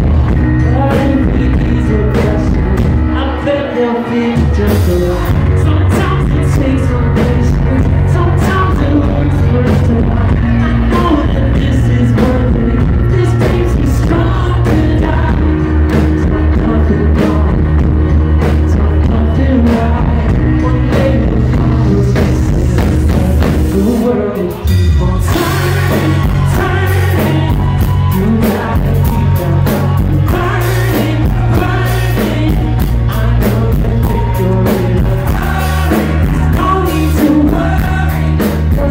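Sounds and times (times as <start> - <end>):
electric guitar: 0.0 - 38.9
heavy bass line: 0.0 - 38.9
keyboards: 0.0 - 38.9
male singer: 0.0 - 38.9
drums and cymbals: 4.4 - 38.9.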